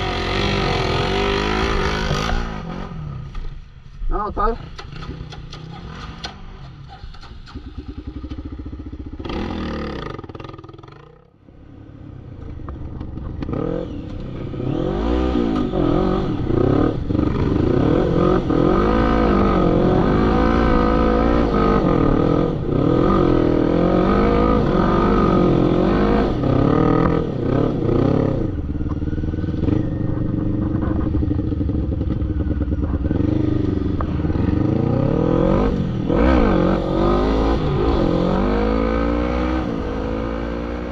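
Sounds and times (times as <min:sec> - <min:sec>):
off-road vehicle engine revving: 0:00.0 - 0:03.4, 0:07.4 - 0:11.1, 0:13.4 - 0:30.0, 0:30.6 - 0:40.9.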